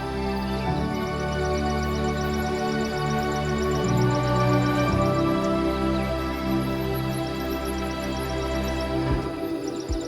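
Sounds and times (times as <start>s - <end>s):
calm music of sustained tones: 0.0s - 10.0s.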